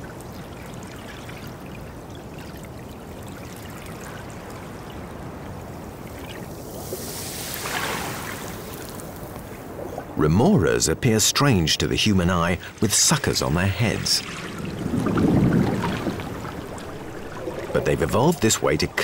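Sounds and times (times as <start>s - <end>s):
underwater rushing water: 1.0s - 10.2s, 12.2s - 19.0s.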